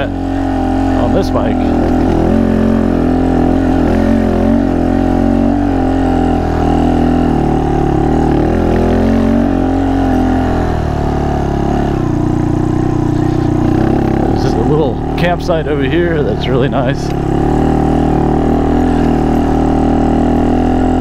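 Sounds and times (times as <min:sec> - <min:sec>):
motorcycle engine at low speed: 0:00.0 - 0:21.0.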